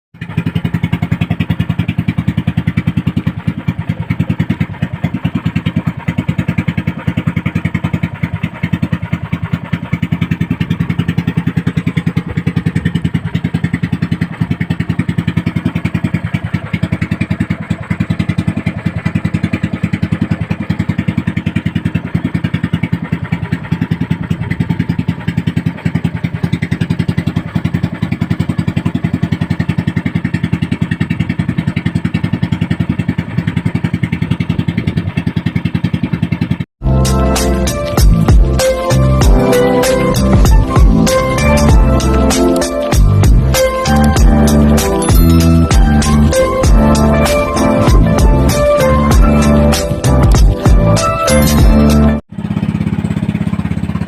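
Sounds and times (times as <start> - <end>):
motor boat engine putter: 0.1 - 54.0.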